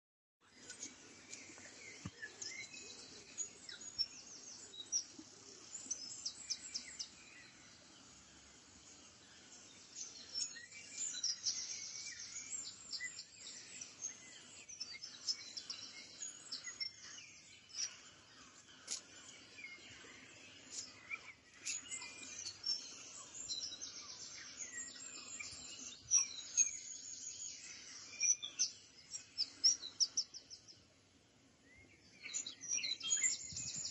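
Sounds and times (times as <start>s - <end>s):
birds chirping and trilling: 0.5s - 33.9s.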